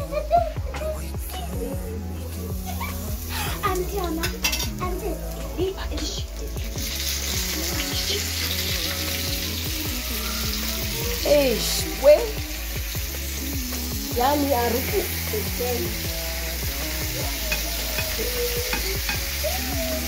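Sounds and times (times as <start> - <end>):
fish sizzling in oil: 1.6 - 20.0.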